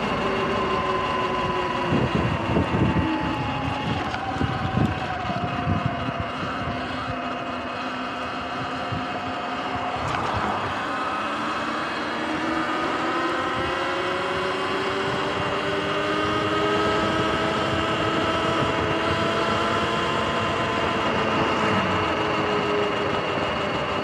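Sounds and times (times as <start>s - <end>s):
electric motor whining: 0.0s - 24.0s
wind and tyre noise: 0.0s - 24.0s.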